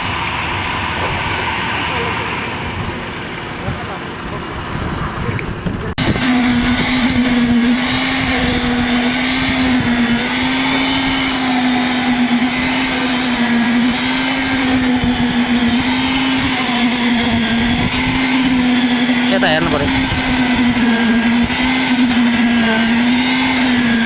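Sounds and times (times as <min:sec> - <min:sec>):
machine motor droning: 0:00.0 - 0:24.0.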